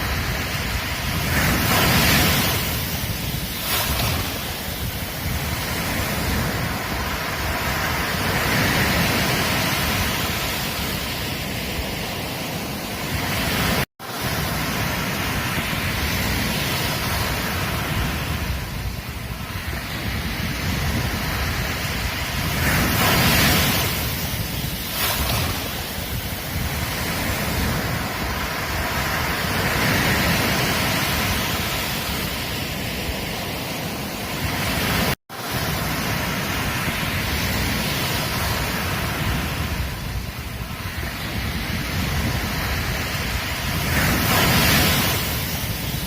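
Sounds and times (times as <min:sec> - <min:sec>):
ocean surf washing onto beach: 0:00.0 - 0:46.0
wave breaking: 0:00.0 - 0:46.0.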